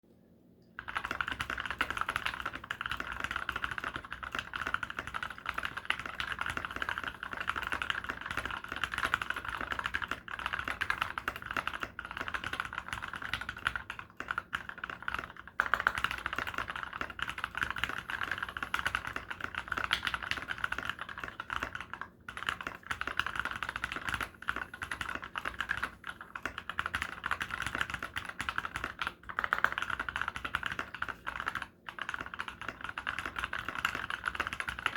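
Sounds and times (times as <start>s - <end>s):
fast mechanical keyboard typing: 0.8s - 34.9s.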